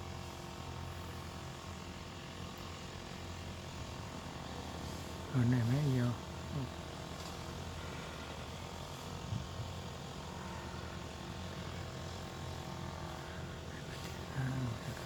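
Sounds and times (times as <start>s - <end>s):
kite hummer droning: 2.9s - 15.0s.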